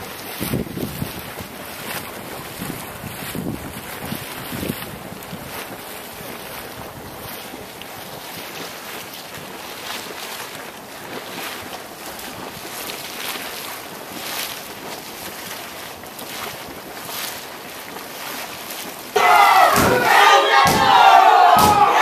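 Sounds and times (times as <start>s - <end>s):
hot pool boiling: 0.0s - 22.0s.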